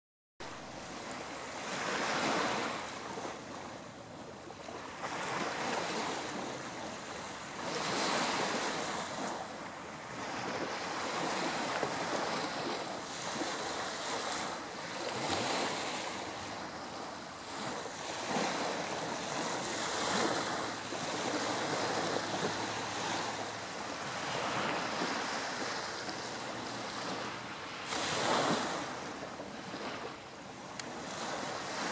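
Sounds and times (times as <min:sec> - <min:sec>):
waves lapping on sandy beach: 0:00.5 - 0:31.9.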